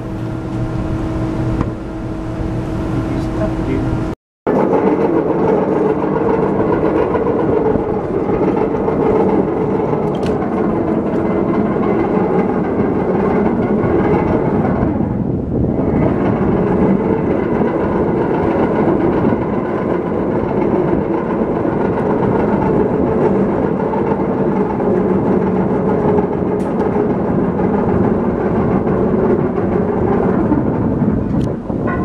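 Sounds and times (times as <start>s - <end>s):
machinery rumbling: 0.0s - 32.0s.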